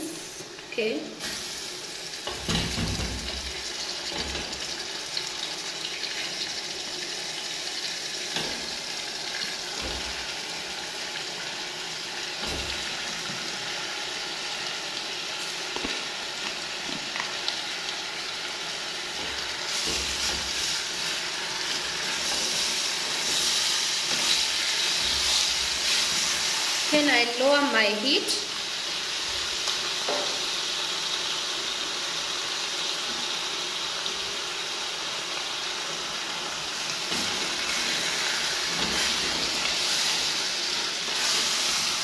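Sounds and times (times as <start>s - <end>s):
greens sizzling in a pot: 0.0s - 42.0s.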